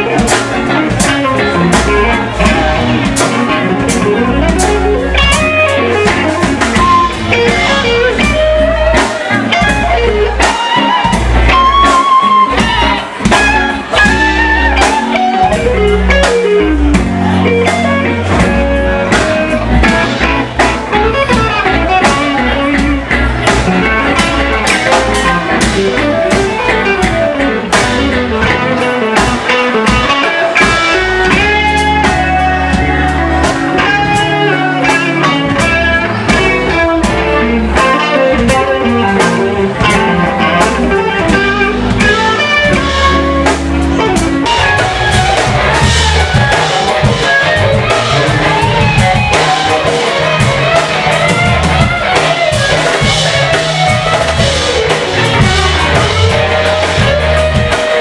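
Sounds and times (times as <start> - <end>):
bass guitar: 0.0 - 58.0
drum kit: 0.0 - 58.0
electric guitar lead lines: 0.0 - 58.0.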